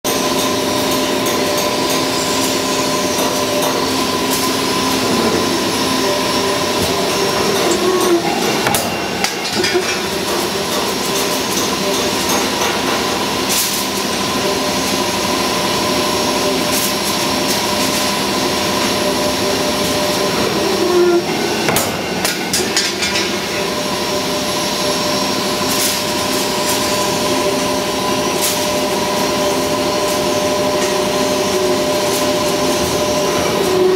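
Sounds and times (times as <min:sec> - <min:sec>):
spring coiling machine whine: 0:00.1 - 0:33.9.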